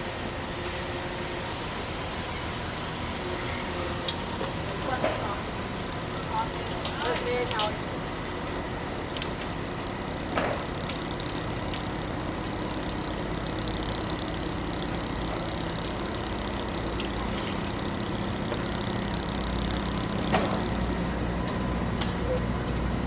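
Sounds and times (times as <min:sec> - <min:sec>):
heavy truck engine running: 0:00.0 - 0:23.0.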